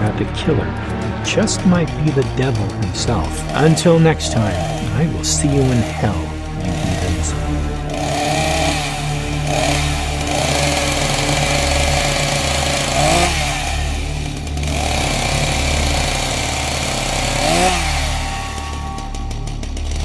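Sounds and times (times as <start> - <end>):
chainsaw engine idling and revving: 0.0 - 20.0.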